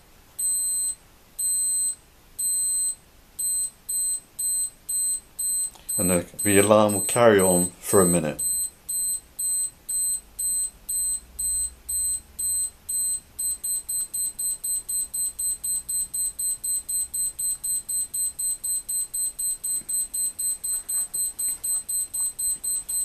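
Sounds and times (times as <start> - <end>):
alarm clock beeping: 0.4 - 23.0.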